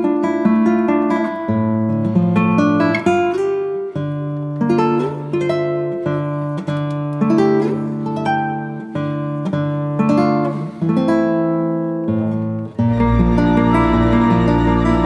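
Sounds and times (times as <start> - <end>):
plucked guitar chords: 0.0 - 15.0.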